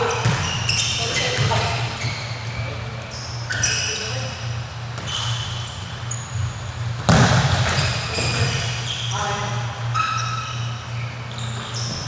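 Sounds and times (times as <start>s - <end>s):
sneakers squeaking on floor: 0.0s - 12.0s.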